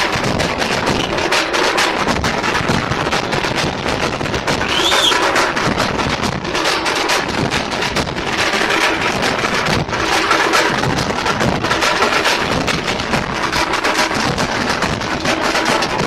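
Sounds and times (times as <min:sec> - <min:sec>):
frame drums beaten with sticks: 0:00.0 - 0:16.0
large bass drums: 0:00.0 - 0:16.0.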